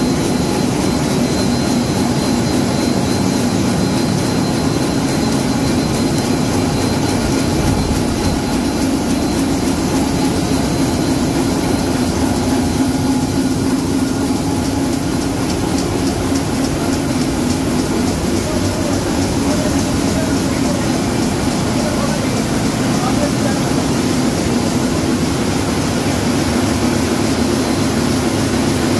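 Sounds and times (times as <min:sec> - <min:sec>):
printing press mechanical drone: 0:00.0 - 0:28.9.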